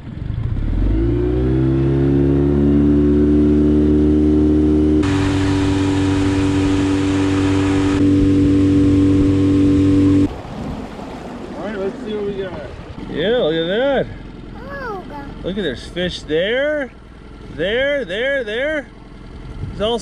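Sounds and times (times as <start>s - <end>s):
outboard motor revving: 0.0s - 20.0s.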